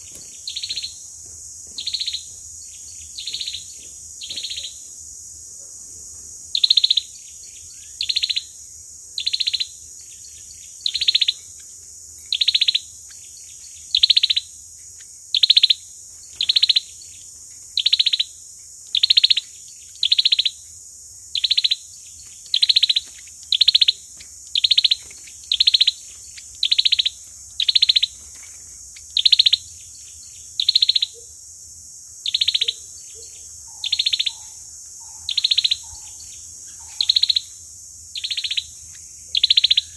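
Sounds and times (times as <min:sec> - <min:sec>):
bird buzzy trilled calls: 0:00.0 - 0:01.0, 0:06.5 - 0:31.3, 0:32.2 - 0:39.9.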